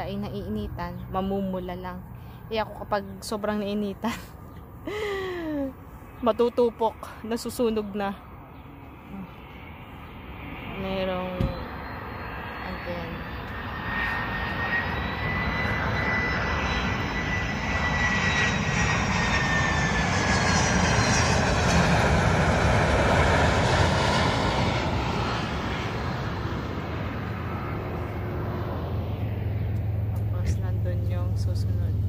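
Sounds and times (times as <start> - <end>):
jet engine rumble and whine: 0.0 - 32.0.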